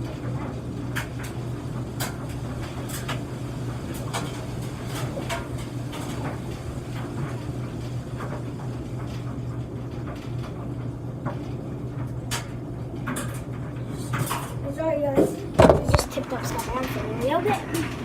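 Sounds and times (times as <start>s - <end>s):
laundry machine humming: 0.0s - 18.0s.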